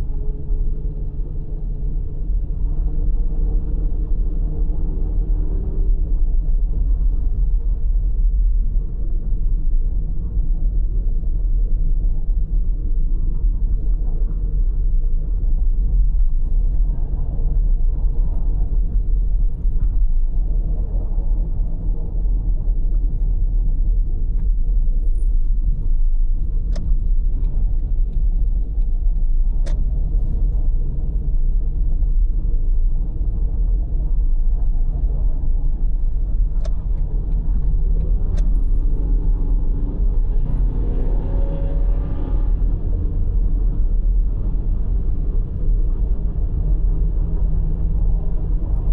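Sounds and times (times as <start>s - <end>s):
car road rumble: 0.0s - 48.9s.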